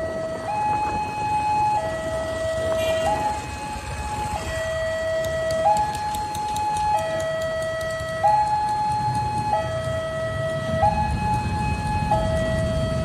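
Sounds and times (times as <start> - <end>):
idling traffic rumble: 0.0 - 13.0.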